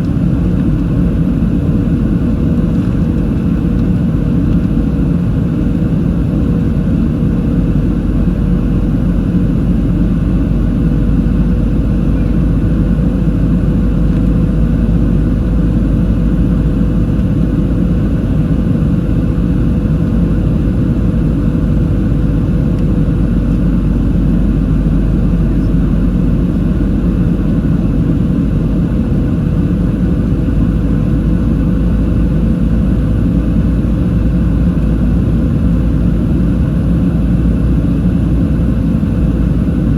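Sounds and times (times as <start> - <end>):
aircraft engine roar and airflow: 0.0 - 39.9.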